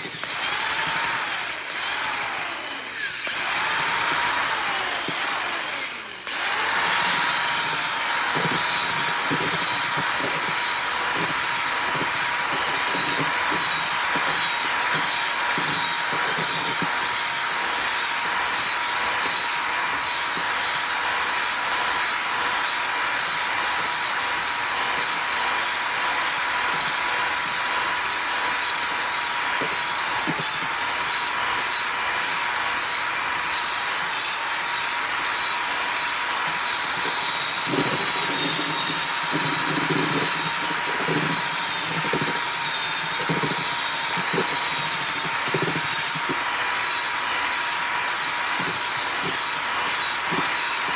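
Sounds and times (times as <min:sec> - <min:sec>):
electric drill mixer whining: 0:00.0 - 0:50.9.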